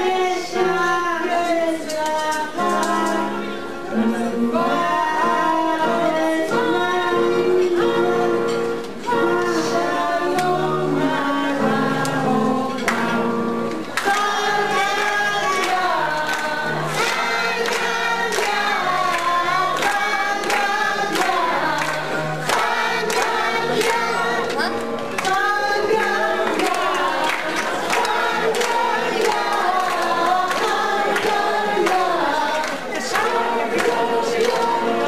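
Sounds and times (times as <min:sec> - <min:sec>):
girls singing through microphone: 0:00.0 - 0:35.0.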